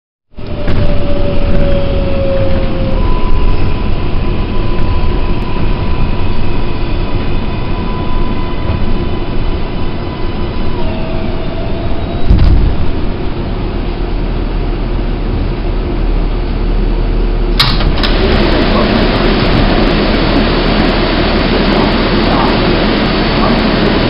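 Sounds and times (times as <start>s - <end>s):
subway car rumble: 0.3s - 24.0s
subway propulsion whine: 0.3s - 24.0s.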